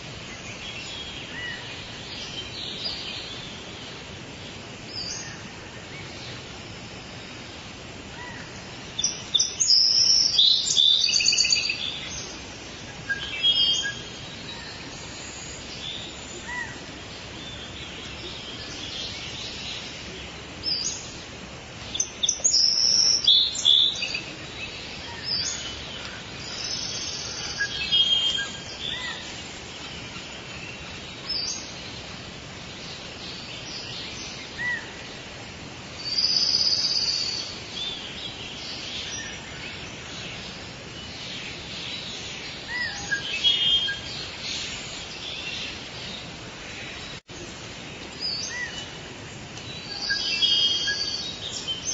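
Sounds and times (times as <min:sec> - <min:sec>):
forest background hiss: 0:00.0 - 0:51.9
wild birds chirping: 0:00.0 - 0:51.9.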